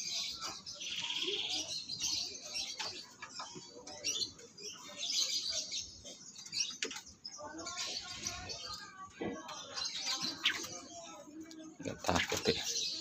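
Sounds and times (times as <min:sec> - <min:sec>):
cage birds chirping: 0:00.0 - 0:13.0.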